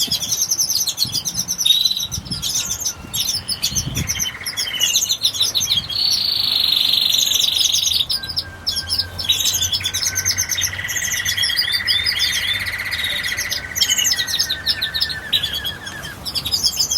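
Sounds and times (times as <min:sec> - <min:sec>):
birds chirping and calling: 0:00.0 - 0:16.9
buzzy bird trills: 0:00.0 - 0:16.9.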